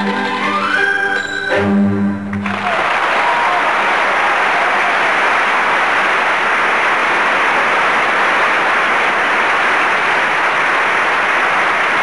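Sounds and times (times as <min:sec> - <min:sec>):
audience applauding: 0:02.3 - 0:12.0.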